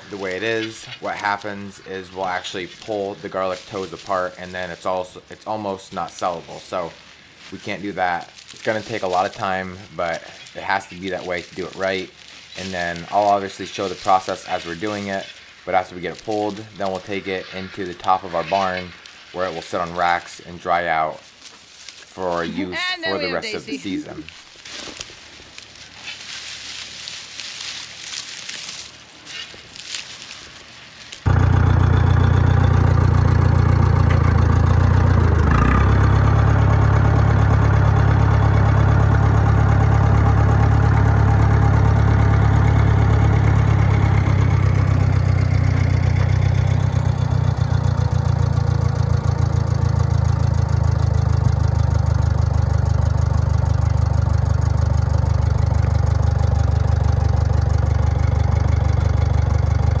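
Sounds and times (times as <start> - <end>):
tractor engine running: 0.0 - 21.6, 23.6 - 60.0.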